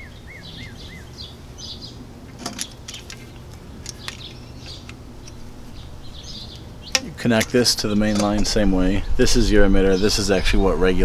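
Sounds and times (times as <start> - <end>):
outdoor noise: 0.0 - 11.0
small birds chirping: 0.0 - 11.0.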